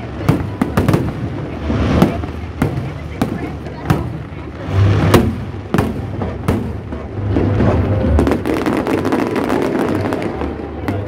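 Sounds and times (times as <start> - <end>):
fireworks booming: 0.0 - 11.0
fireworks crackling: 0.0 - 11.0
low rumble: 1.0 - 11.0.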